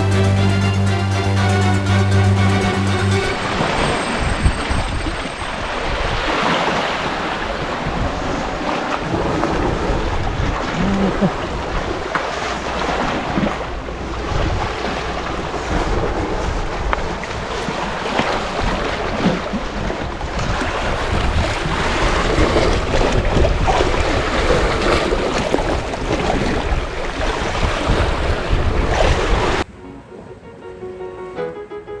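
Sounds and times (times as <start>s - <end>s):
sea waves: 0.0s - 31.7s
wind buffeting microphone: 3.4s - 12.1s, 13.0s - 30.4s.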